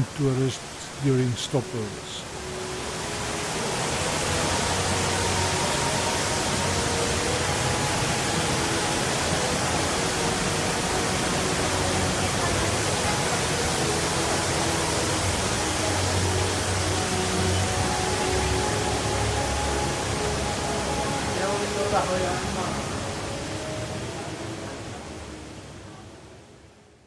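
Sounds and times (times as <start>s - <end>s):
indoor waterfall rushing: 0.0s - 27.0s.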